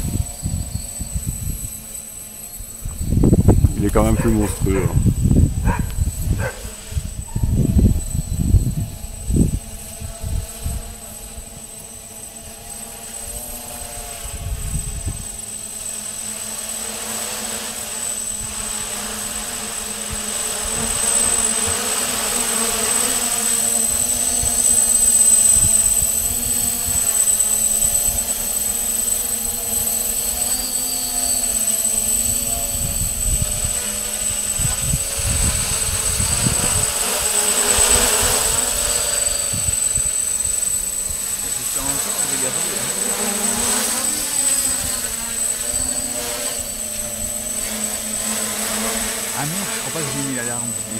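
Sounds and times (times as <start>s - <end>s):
drone propellers buzzing: 0.0s - 50.9s
high whine: 0.0s - 50.9s.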